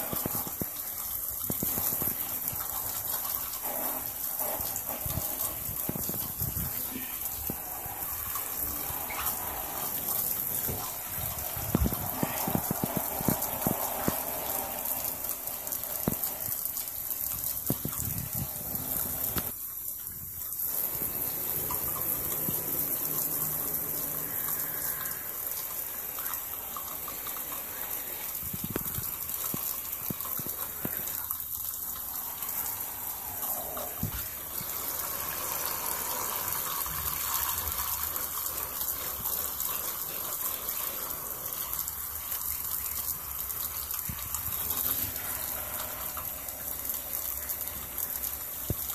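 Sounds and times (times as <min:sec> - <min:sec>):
water splashing on tub floor: 0:00.0 - 0:40.9
shower spray on boots: 0:00.0 - 0:48.9.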